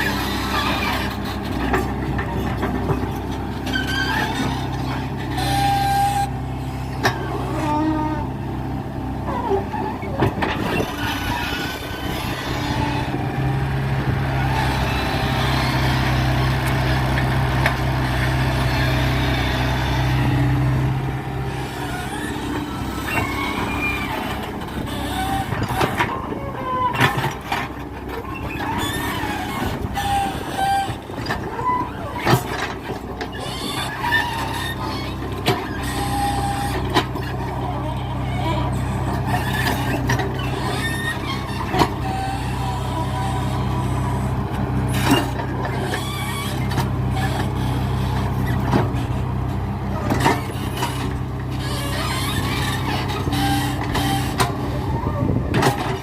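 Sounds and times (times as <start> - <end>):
excavator diesel engine running: 0.0 - 56.0
hydraulics whining and squealing: 0.0 - 56.0.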